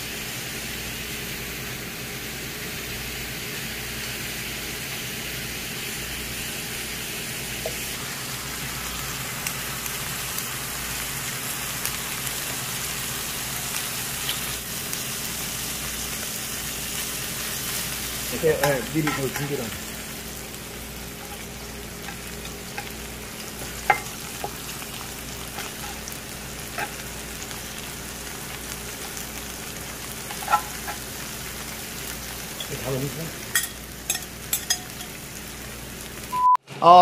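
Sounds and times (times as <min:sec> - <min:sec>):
meat sizzling on a griddle: 0:00.0 - 0:36.4.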